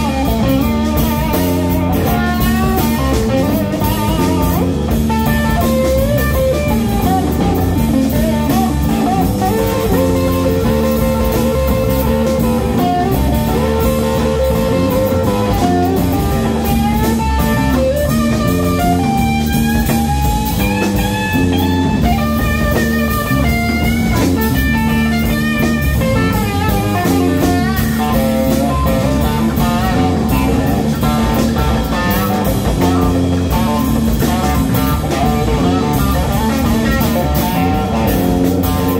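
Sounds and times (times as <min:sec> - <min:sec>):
bass guitar: 0:00.0 - 0:38.9
drum kit: 0:00.0 - 0:38.9
electric guitar lead: 0:00.0 - 0:38.9.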